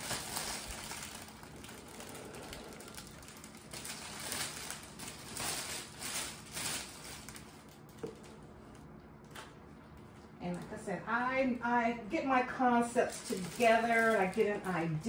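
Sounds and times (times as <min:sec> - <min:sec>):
cellophane wrap crinkling: 0:00.0 - 0:10.6, 0:12.9 - 0:15.0.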